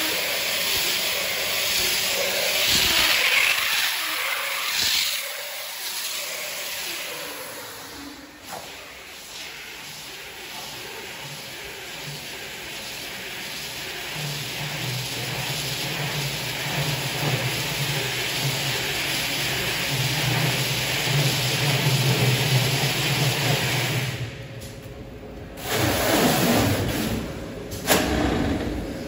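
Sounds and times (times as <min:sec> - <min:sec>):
machine hiss: 0:00.0 - 0:24.3.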